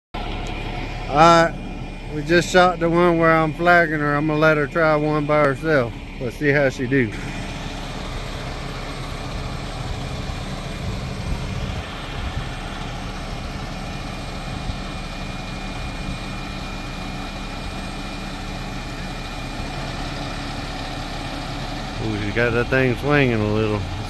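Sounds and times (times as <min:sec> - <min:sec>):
diesel crane engine running: 0:00.1 - 0:24.0.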